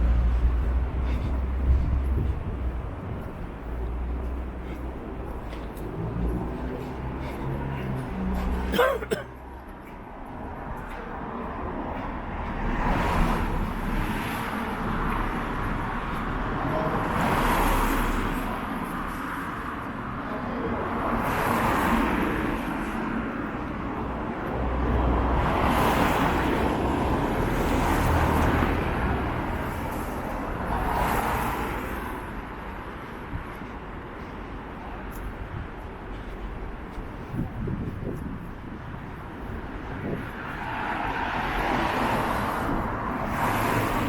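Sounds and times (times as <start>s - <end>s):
wind rumble on microphone: 0.0s - 8.3s, 10.2s - 44.0s
cars passing: 0.0s - 44.0s.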